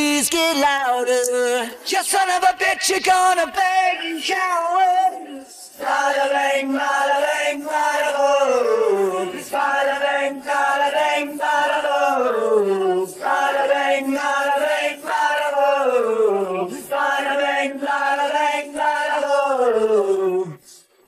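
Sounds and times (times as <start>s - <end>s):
men chanting wordless vocals: 0.0s - 20.9s.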